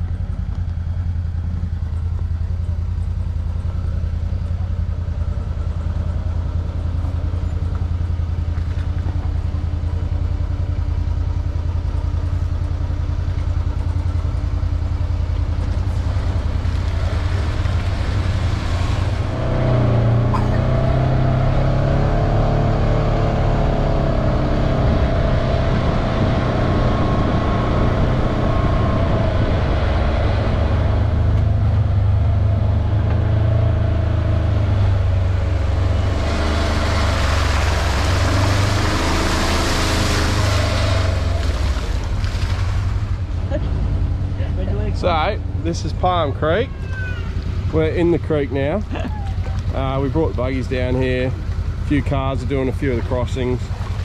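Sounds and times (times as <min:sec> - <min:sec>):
buggy engine running: 0:00.0 - 0:54.0.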